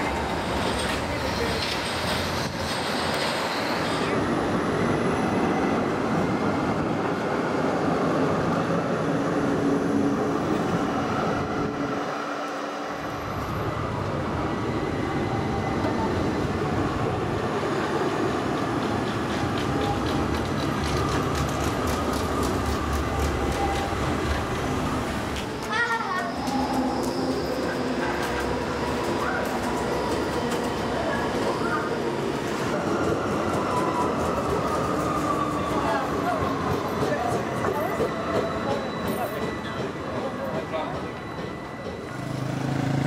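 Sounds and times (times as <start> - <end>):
city traffic: 0.0 - 43.0
trams rumbling on tracks: 0.0 - 43.0.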